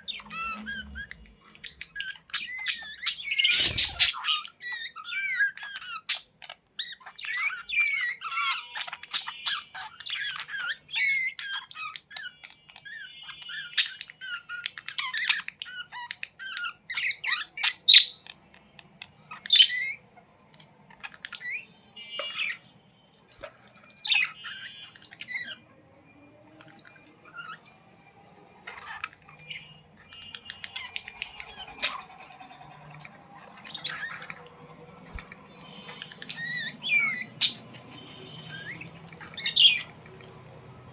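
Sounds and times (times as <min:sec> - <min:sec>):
budgerigars chattering and squawking: 0:00.0 - 0:25.7, 0:26.4 - 0:40.9.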